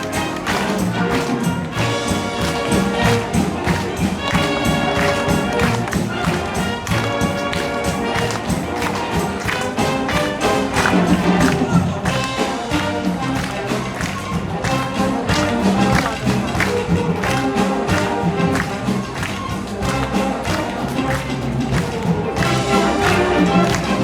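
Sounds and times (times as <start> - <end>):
brass and woodwind chords: 0.0 - 24.0
steady drum beat: 0.0 - 24.0.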